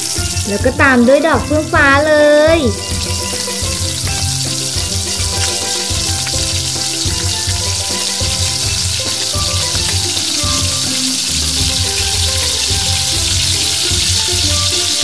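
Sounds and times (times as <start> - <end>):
background music with pulsing beat: 0.0 - 15.0
battered flowers sizzling in oil: 0.0 - 15.0.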